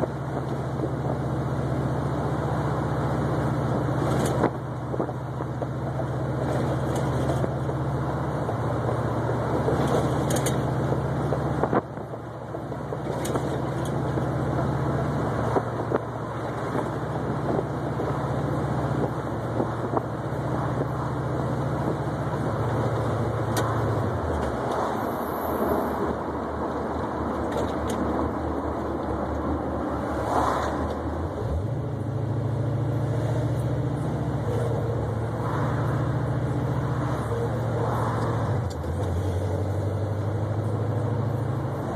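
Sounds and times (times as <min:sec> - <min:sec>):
car engine running: 0:00.0 - 0:41.9
road and wind noise: 0:00.0 - 0:41.9.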